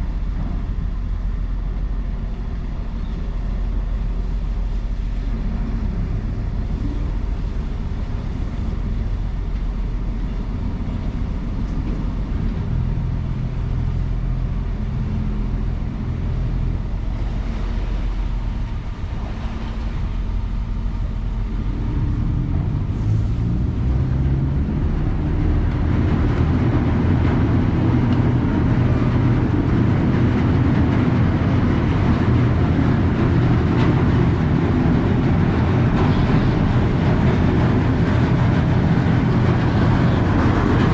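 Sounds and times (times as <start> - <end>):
ferry engines droning: 0.0 - 40.9.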